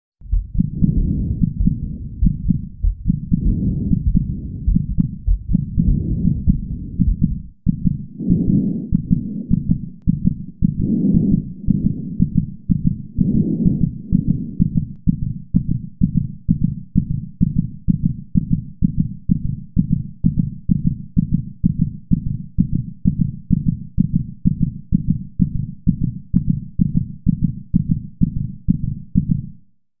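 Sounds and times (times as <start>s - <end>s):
heartbeat through stethoscope: 0.2s - 29.6s.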